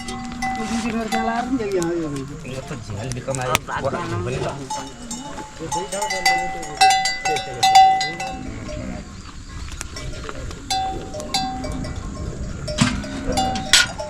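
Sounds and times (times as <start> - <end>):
livestock bells clanking: 0.0 - 9.1, 9.8 - 14.0.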